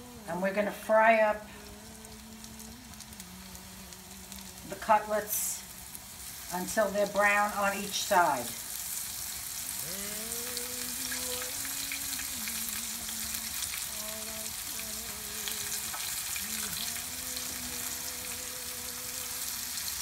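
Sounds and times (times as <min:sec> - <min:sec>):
chicken frying in oil: 0:00.0 - 0:20.0.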